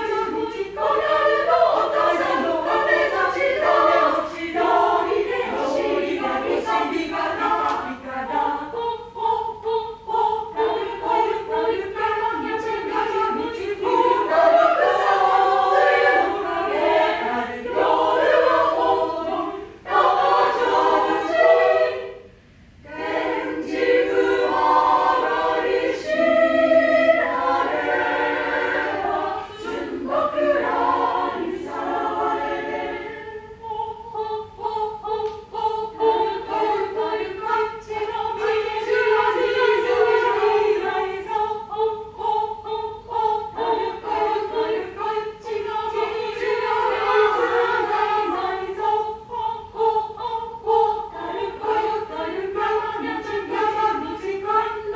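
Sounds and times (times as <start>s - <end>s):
mixed choir singing: 0.0s - 54.9s.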